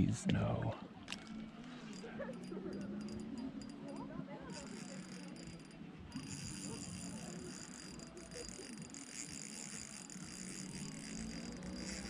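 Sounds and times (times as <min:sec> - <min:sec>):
fishing reel ticking: 0:01.0 - 0:12.0.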